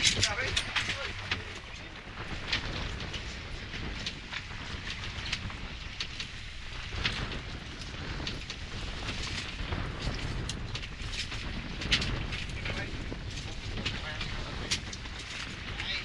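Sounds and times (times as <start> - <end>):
small clicks and crackles: 0.0 - 16.0
wind rumbling on microphone: 0.0 - 16.0.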